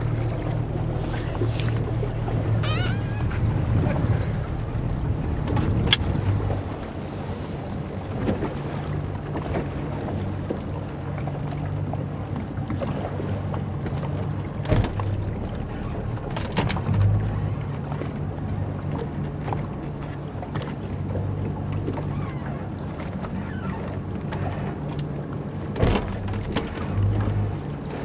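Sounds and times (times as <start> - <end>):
motorboat engine idling: 0.0 - 28.0.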